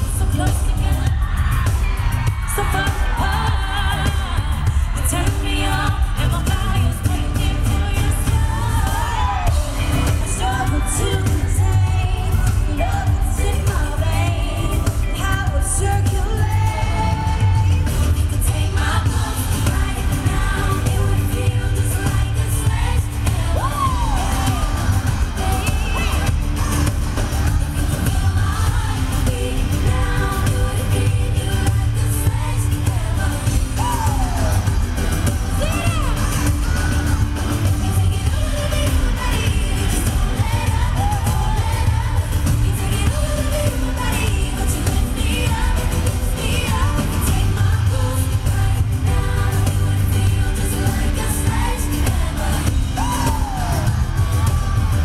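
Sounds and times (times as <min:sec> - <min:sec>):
female singers with band: 0:00.0 - 0:55.0.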